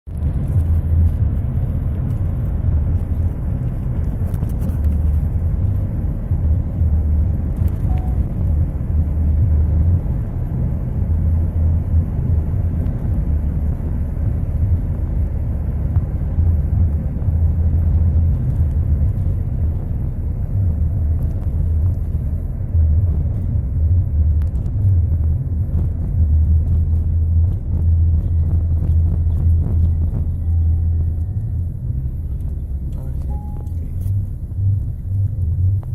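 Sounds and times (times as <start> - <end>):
car driving low rumble: 0.0 - 35.9.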